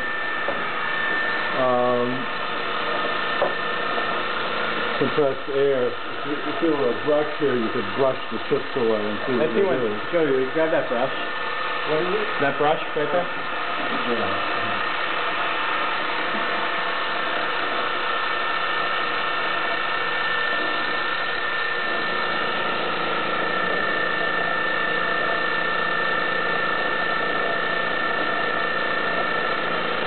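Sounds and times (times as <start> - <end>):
milling machine whining: 0.0 - 30.0.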